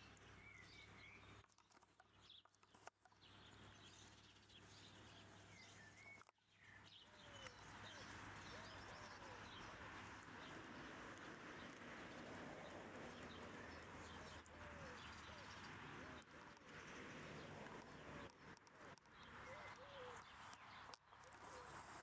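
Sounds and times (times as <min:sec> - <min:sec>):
distant bird chirps: 0:00.0 - 0:22.0.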